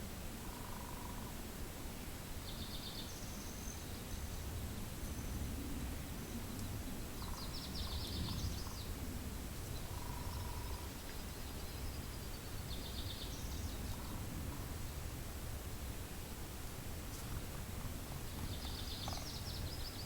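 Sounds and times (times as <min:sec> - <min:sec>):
songbird singing: 0:00.0 - 0:20.0
wind rumble on microphone: 0:00.0 - 0:20.0.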